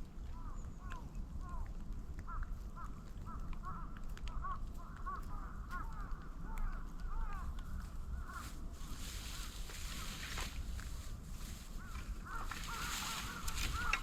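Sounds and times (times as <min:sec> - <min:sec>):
fire burning and crackling: 0:00.0 - 0:14.0.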